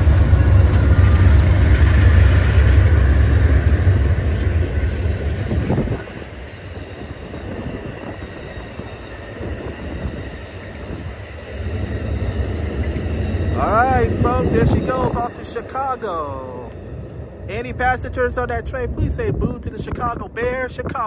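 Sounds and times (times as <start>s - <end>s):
diesel locomotives rumbling: 0.0s - 21.0s
passenger cars rolling over rails: 0.0s - 21.0s.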